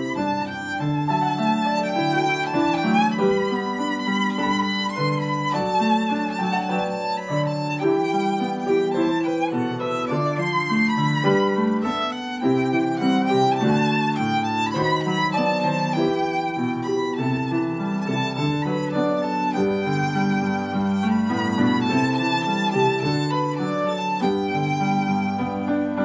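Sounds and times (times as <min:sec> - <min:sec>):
piano accompaniment: 0:00.0 - 0:26.0
violin melody: 0:00.0 - 0:26.0.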